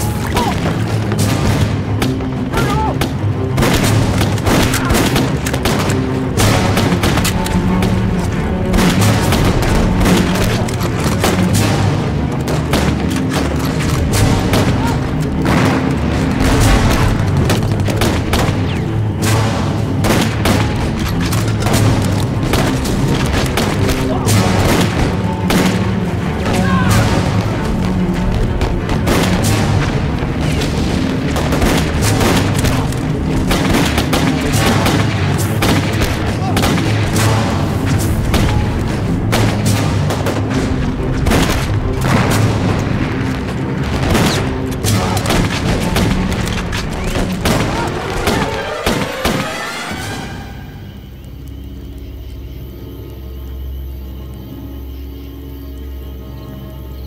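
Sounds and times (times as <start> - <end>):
rifle shots and booms: 0.0 - 49.7
tense background music: 0.0 - 57.0.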